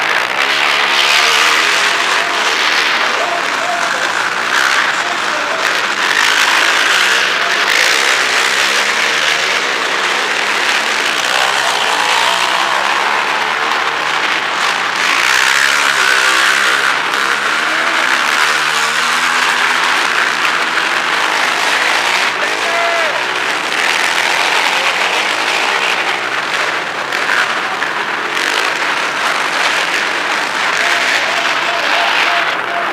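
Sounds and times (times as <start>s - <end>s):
quad engines revving: 0.0s - 32.9s.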